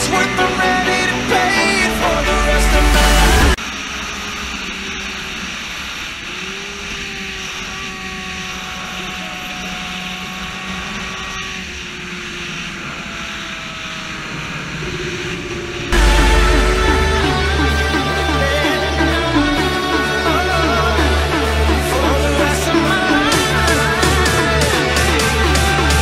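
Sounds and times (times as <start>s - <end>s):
motorcycle engine cruising: 3.2s - 26.0s.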